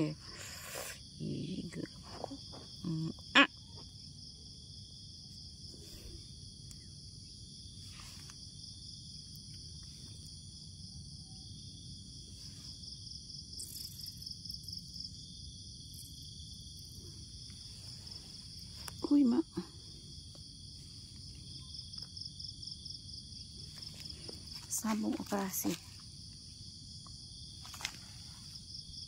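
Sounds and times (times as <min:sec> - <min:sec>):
insects calling: 0:00.0 - 0:29.0.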